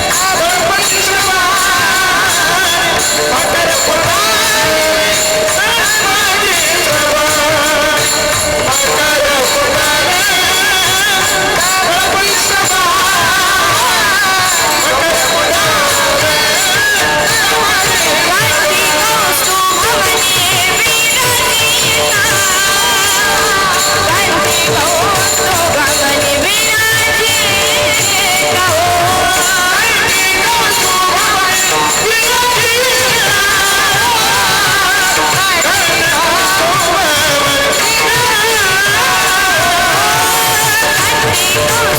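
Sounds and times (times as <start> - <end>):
instrumental accompaniment: 0.0 - 41.9
woman singing devotional song: 0.0 - 41.9.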